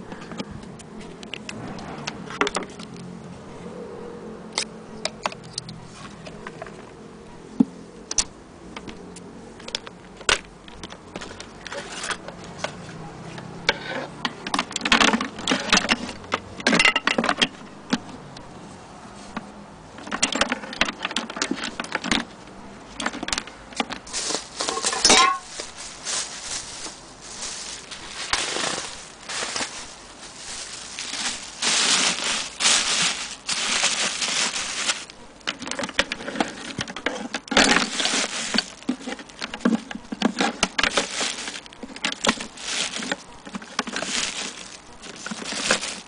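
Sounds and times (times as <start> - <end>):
cords clicking and rustling in case: 4.6 - 18.6, 19.2 - 46.0.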